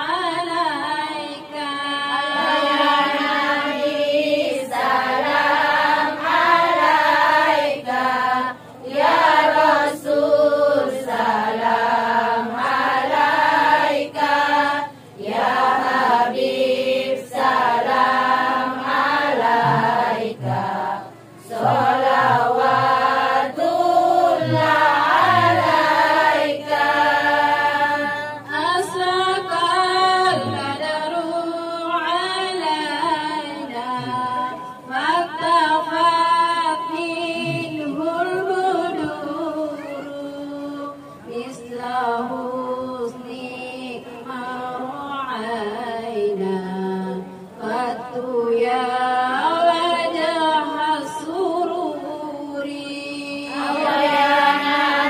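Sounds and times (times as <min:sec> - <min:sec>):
women singing unaccompanied: 0:00.0 - 0:55.0.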